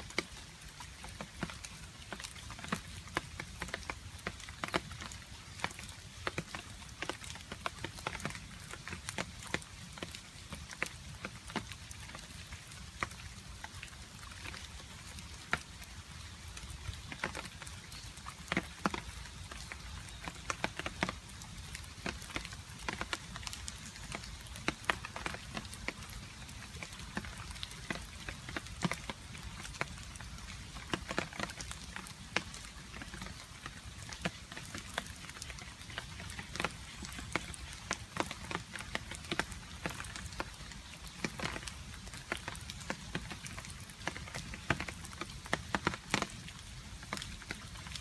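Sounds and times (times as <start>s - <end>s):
rain patter: 0.0s - 48.0s.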